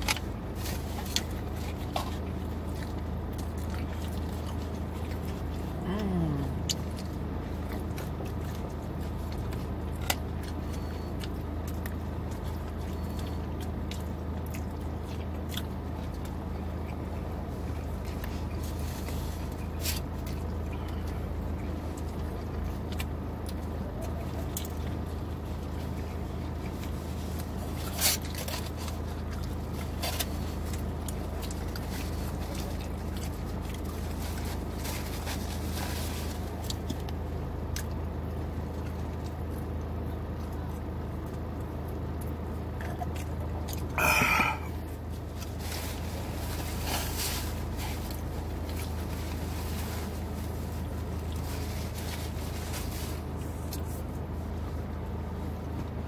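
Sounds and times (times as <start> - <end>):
eating and drinking: 0.0 - 56.0
steady low hum: 0.0 - 56.0.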